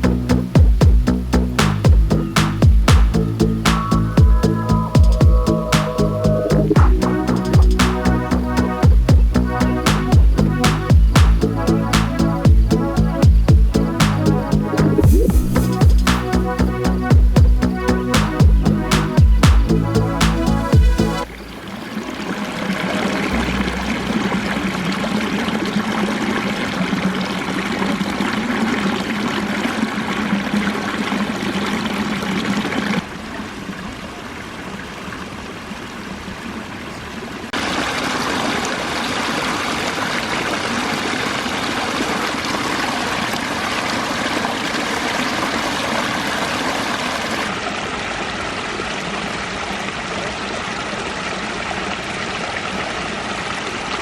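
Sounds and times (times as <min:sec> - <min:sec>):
waterfall splashing and trickling: 0:00.0 - 0:54.0.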